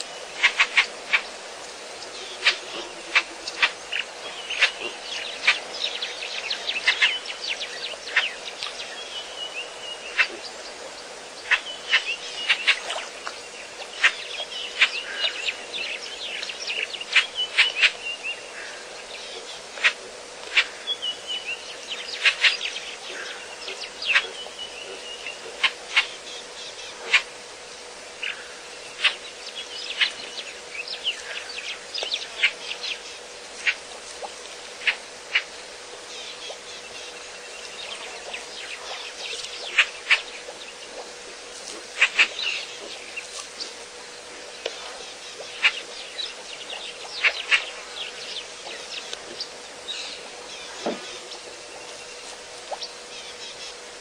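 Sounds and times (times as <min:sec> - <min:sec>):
birds chirping: 0:00.0 - 0:54.0
insect buzz: 0:00.0 - 0:54.0.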